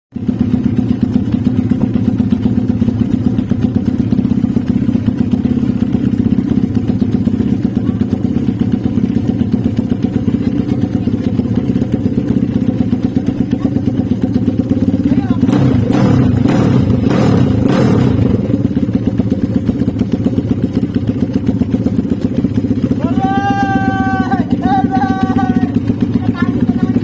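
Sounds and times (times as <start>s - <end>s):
motorbike engine idling: 0.1s - 27.0s.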